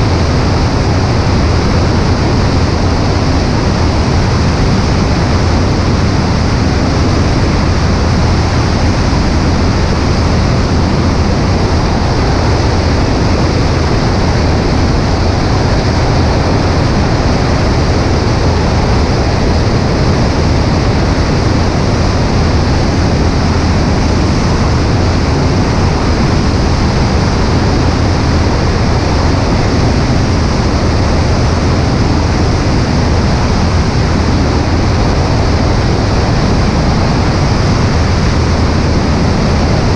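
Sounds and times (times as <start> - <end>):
airplane engine and propeller: 0.0 - 39.9
wind rushing over microphone: 0.0 - 39.9.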